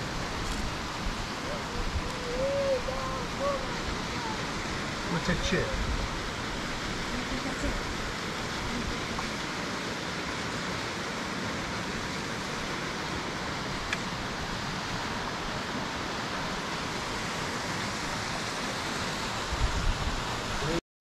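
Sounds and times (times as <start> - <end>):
mountain stream rushing: 0.0 - 20.8.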